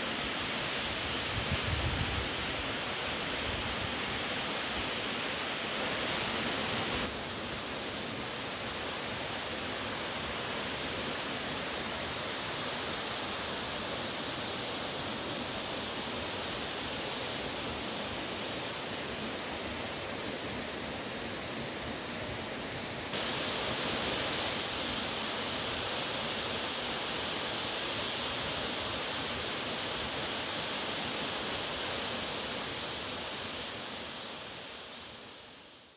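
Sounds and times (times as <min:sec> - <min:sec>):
waterfall rushing: 0:02.7 - 0:34.8.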